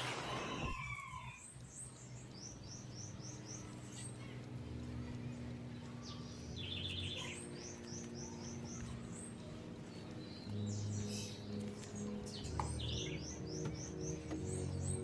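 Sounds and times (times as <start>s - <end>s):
birds chirping: 0.0s - 15.0s
soft background music: 1.7s - 15.0s.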